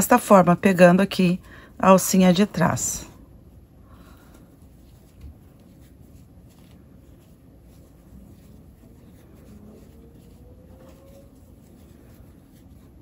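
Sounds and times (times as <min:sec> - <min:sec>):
yarn rustling through crochet hook: 0:00.0 - 0:13.0.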